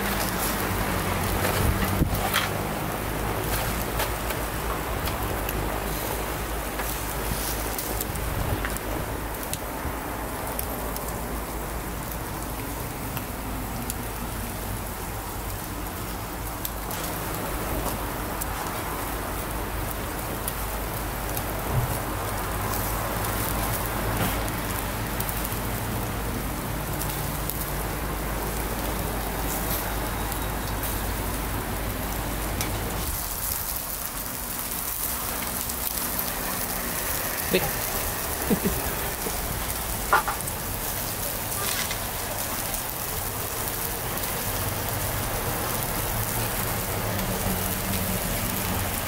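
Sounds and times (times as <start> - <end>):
meat sizzling on a grill: 0.0 - 49.0.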